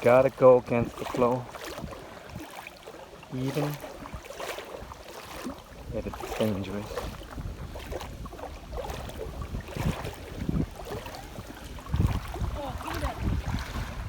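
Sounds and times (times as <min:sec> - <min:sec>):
water sloshing against canoe: 0:00.0 - 0:14.0
wind buffeting microphone: 0:00.0 - 0:14.0.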